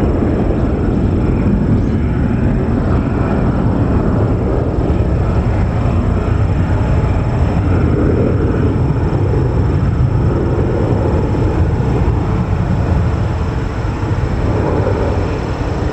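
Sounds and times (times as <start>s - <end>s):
jet engines rumbling: 0.0s - 15.9s.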